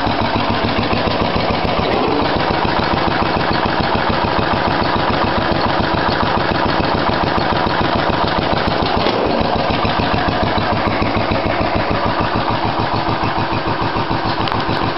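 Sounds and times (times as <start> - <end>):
single-cylinder engine idling: 0.0 - 14.9.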